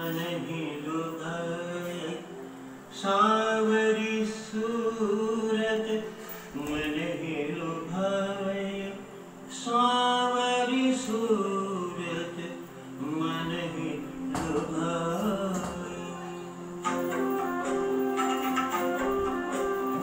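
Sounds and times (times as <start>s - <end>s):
person singing long bending notes: 0.0s - 20.0s.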